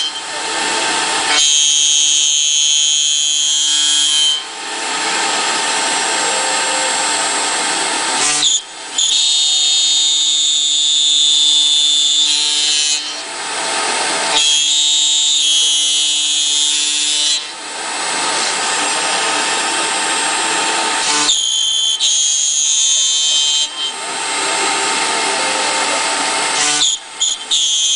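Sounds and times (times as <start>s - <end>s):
cutter milling aluminium: 0.0s - 27.9s
router spindle whining: 0.0s - 27.9s.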